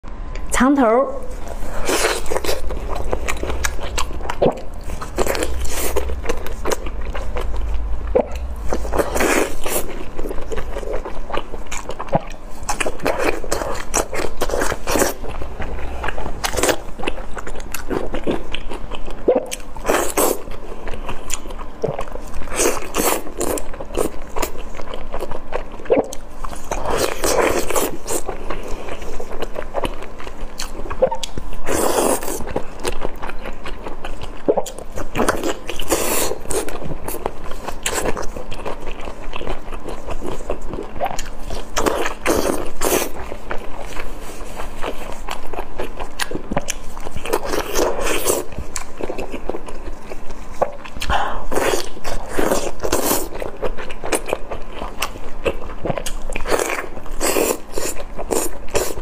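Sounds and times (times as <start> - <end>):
person biting and chewing food: 1.3 - 59.0.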